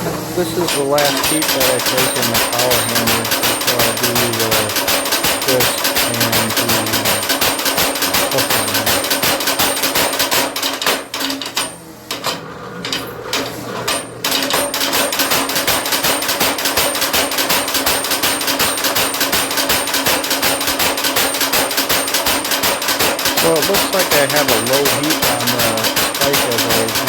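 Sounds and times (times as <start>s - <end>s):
power hammer striking metal: 0.6s - 12.3s, 12.9s - 27.0s.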